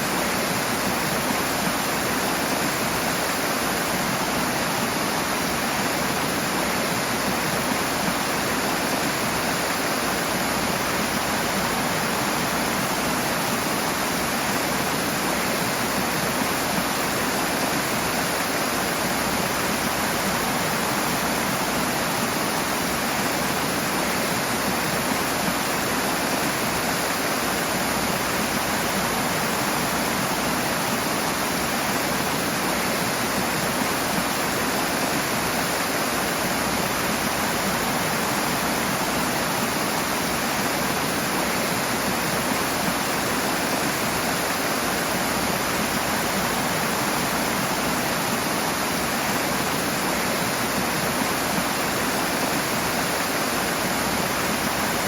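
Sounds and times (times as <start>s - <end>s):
fast-flowing water hissing: 0.0s - 55.0s.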